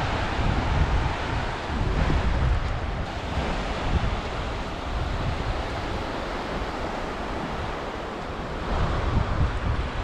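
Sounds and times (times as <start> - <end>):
small waves breaking on beach: 0.0 - 10.0
wind rumbling on microphone: 0.0 - 10.0.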